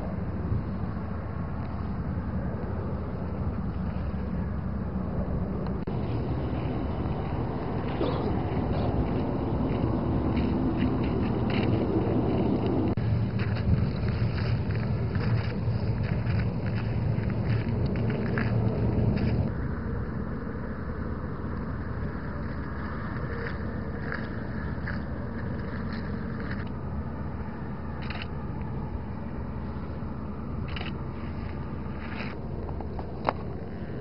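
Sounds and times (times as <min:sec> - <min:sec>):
vehicle rumbling: 0:00.0 - 0:34.0.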